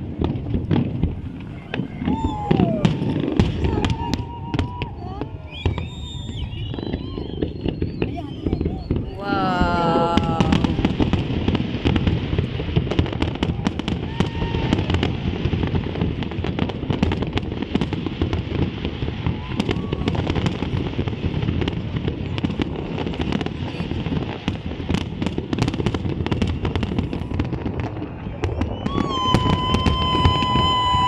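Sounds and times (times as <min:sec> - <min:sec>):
fireworks bangs and cracks: 0:00.0 - 0:31.0.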